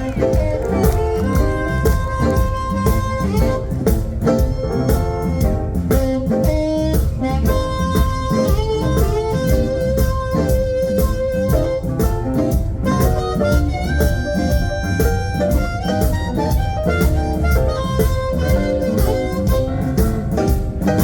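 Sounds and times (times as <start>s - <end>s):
live blues band playing: 0.0s - 21.0s.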